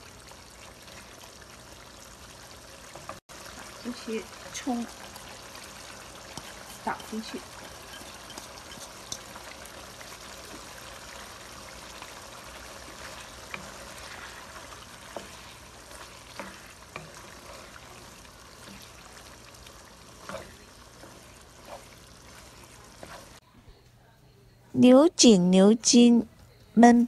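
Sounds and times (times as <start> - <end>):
pot simmering with a hiss: 0.0 - 23.8.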